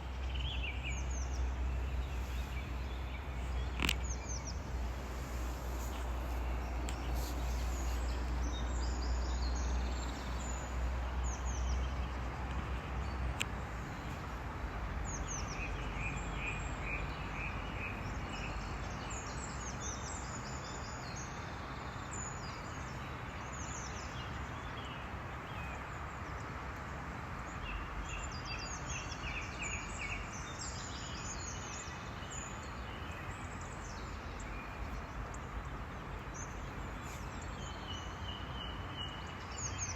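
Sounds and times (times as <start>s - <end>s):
outdoor background noise: 0.0s - 39.9s
songbirds chirping: 0.0s - 39.9s.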